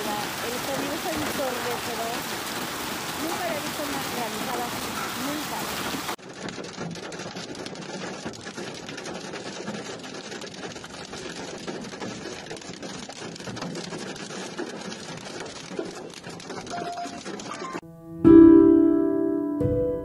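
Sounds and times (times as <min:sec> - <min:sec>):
hail rattling on asphalt: 0:00.0 - 0:17.8.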